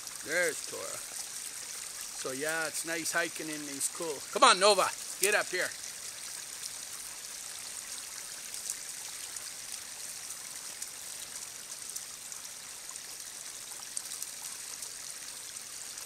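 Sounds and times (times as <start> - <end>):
running water hiss: 0.0 - 16.0.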